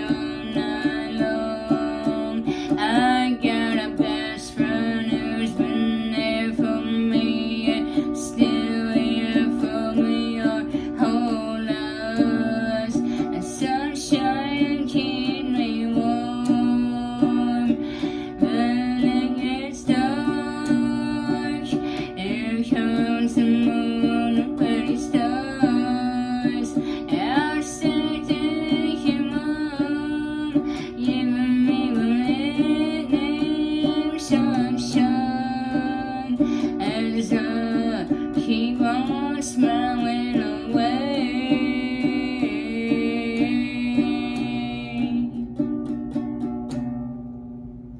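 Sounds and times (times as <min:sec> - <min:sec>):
person singing: 0:00.0 - 0:46.8
plucked string instrument: 0:00.0 - 0:47.9.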